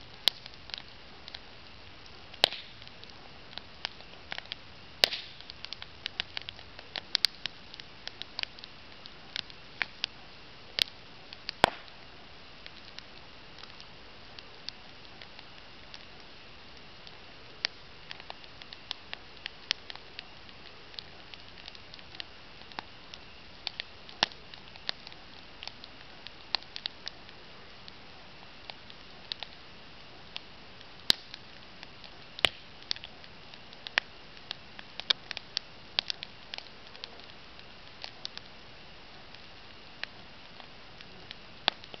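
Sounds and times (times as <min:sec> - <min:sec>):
campfire crackling and popping: 0:00.0 - 0:42.0
faint steady hiss: 0:00.0 - 0:42.0.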